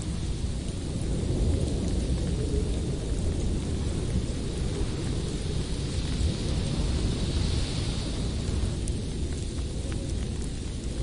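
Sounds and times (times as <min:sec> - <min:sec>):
blizzard wind blowing hard: 0:00.0 - 0:11.0.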